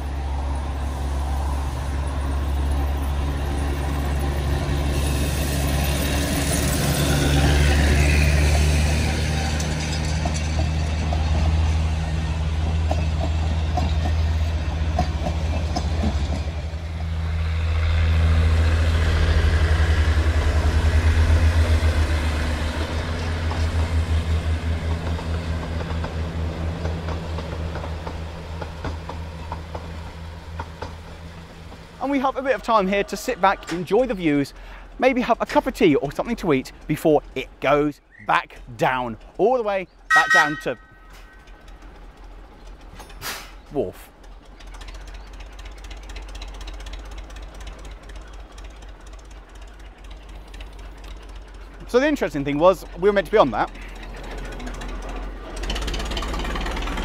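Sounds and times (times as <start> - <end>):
diesel locomotive engine drone: 0.0 - 57.0
train wheels clicking over rail joints: 0.0 - 57.0.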